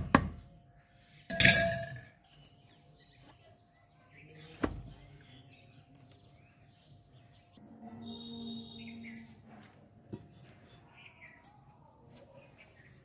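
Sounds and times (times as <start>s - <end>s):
birds chirping: 0.0s - 9.6s, 10.4s - 13.0s.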